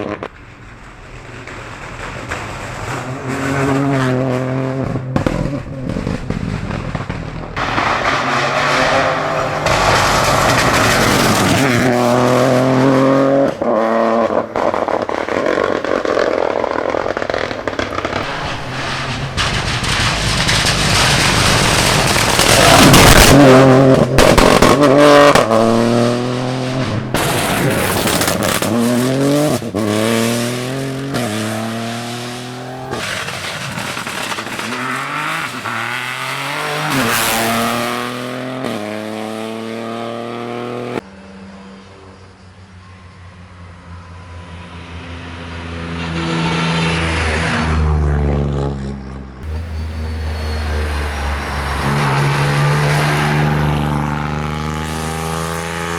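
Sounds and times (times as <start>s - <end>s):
rally car engine accelerating: 1.2s - 41.8s, 44.9s - 55.9s.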